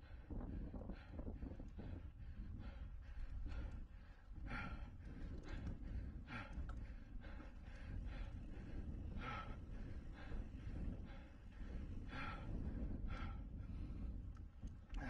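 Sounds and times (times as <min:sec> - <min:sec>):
hard rhythmic breathing: 0:00.0 - 0:15.0.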